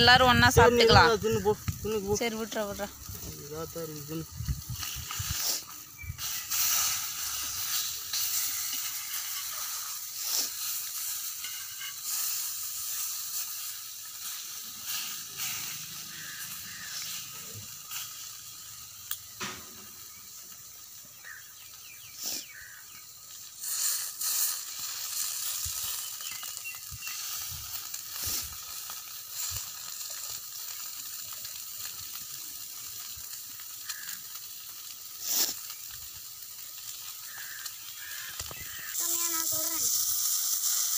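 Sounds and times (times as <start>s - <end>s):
fish sizzling on griddle: 0.0s - 40.9s
sharp frying pops: 0.0s - 40.9s.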